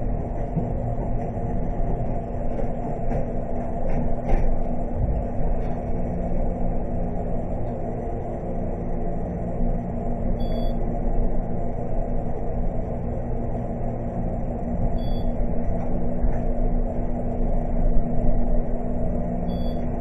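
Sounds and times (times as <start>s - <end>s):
elevator running rumble and hum: 0.0s - 20.0s.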